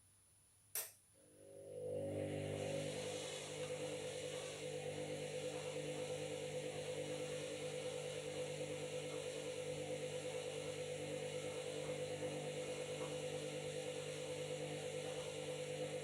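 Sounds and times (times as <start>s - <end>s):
washing machine running: 1.5s - 16.0s.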